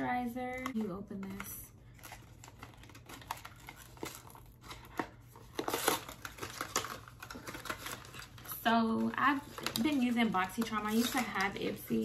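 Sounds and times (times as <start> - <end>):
paper and cardboard crinkling: 0.4 - 12.0.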